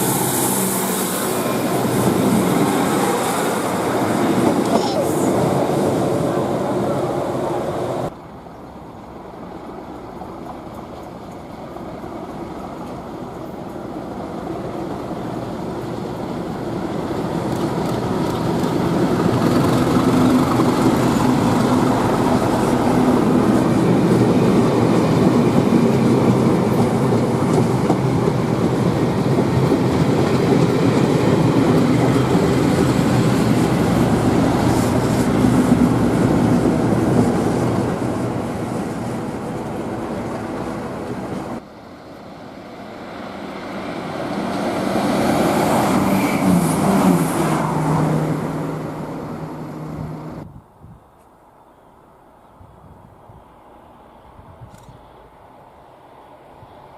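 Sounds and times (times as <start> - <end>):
diesel locomotives passing: 0.0 - 50.5, 51.4 - 56.9.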